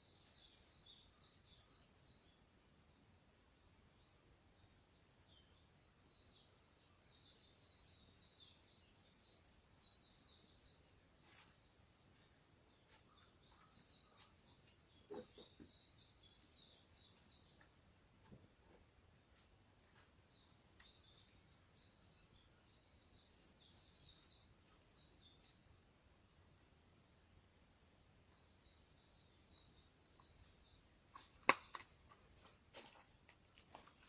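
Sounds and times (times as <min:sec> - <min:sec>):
birds chirping: 0:00.0 - 0:02.6, 0:03.8 - 0:34.0.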